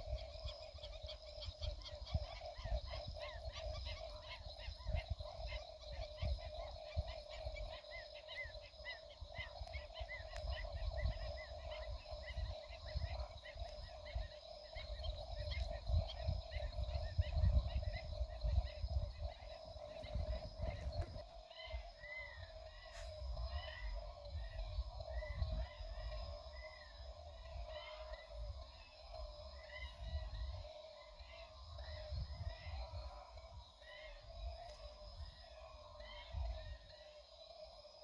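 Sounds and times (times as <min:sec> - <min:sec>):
frogs trilling: 0:00.0 - 0:38.0
insects chirping: 0:00.0 - 0:38.0.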